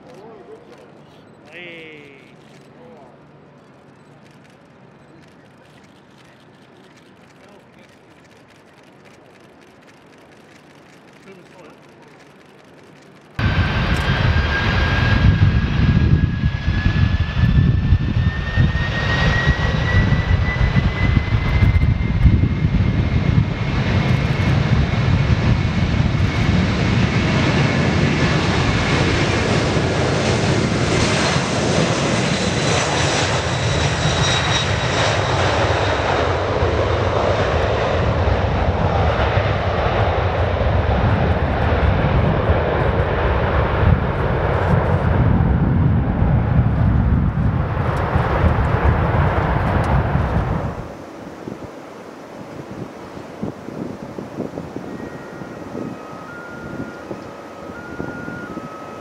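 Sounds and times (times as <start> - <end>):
jet engines roaring at takeoff: 0.1 - 59.0.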